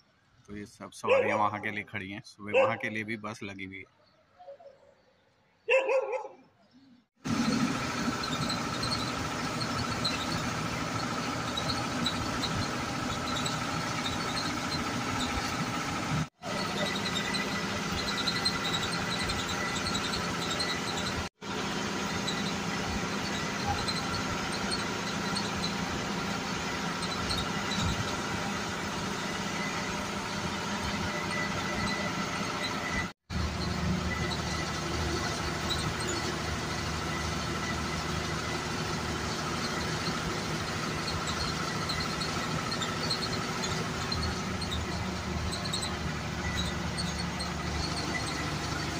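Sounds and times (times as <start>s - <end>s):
bus engine and road noise: 0.0s - 48.9s.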